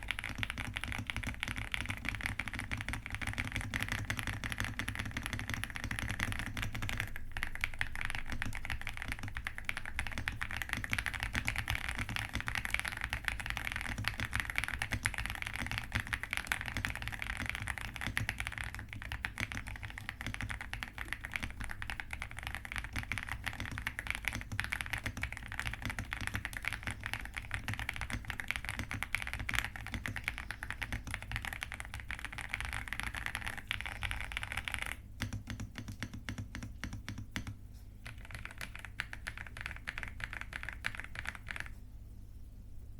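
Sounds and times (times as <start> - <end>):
fast mechanical keyboard typing: 0.0 - 41.8.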